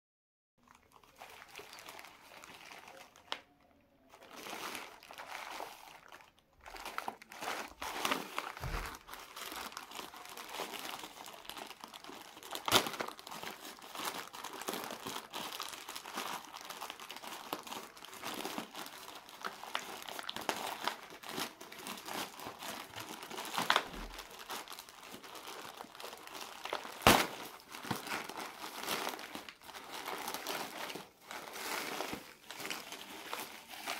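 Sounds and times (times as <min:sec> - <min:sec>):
plastic mailer crinkling: 0:00.7 - 0:33.9.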